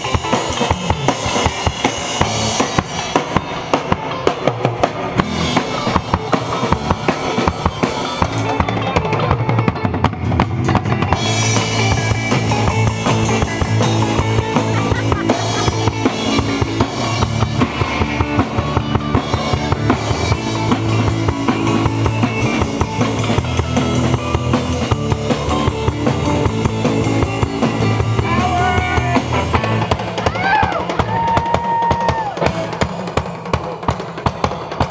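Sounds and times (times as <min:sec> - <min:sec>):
drum kit beat: 0:00.0 - 0:34.9
live rock band playing: 0:00.0 - 0:34.9.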